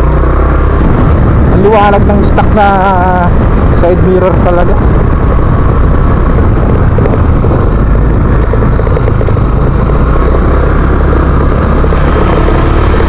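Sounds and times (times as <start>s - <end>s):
scooter engine running: 0.0s - 13.0s
wind and road noise: 0.0s - 13.0s.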